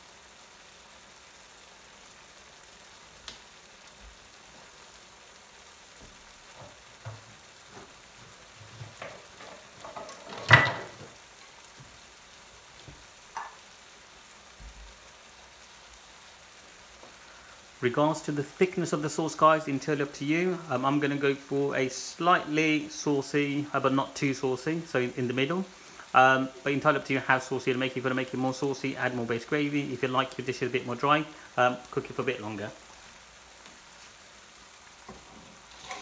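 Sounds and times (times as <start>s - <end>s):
sauce sizzling in a pan: 0.0s - 36.0s.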